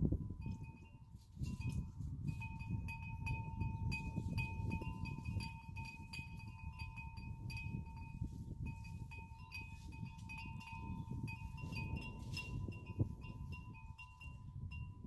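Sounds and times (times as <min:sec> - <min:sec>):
wind rumbling on microphone: 0:00.0 - 0:15.0
steady ringing tones: 0:00.3 - 0:15.0.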